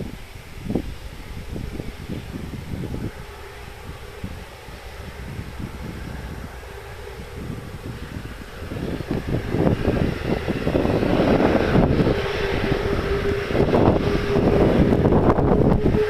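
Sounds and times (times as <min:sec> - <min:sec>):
jet engines rushing and whining: 0:00.0 - 0:16.0
wind buffeting microphone: 0:00.0 - 0:16.0.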